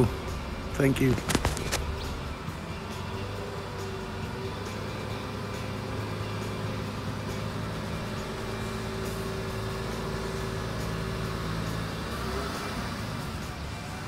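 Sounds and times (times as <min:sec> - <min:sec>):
car engine running at low revs: 0:00.0 - 0:14.0.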